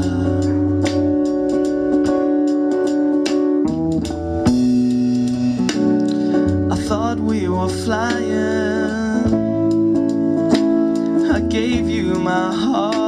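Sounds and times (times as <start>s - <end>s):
pop song with guitar and drums: 0.0s - 13.0s.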